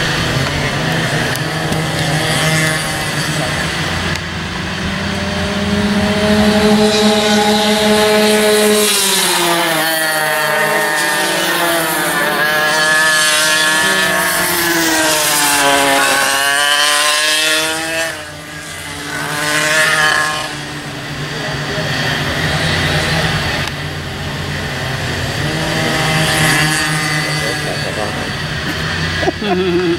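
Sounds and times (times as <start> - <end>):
go-kart engines revving: 0.0 - 29.9.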